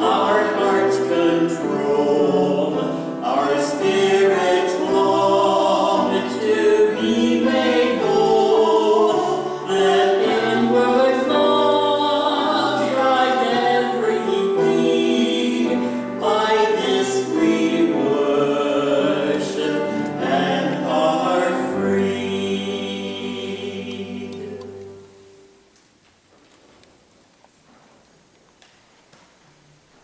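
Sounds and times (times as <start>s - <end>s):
group singing a hymn: 0.0s - 25.5s
piano accompaniment: 0.0s - 25.7s.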